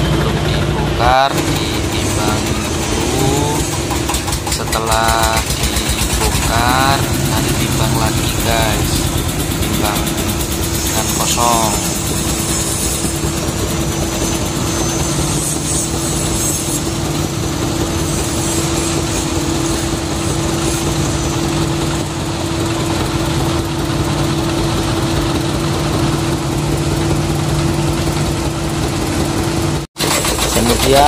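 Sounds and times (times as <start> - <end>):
diesel truck engine idling: 0.0 - 31.0.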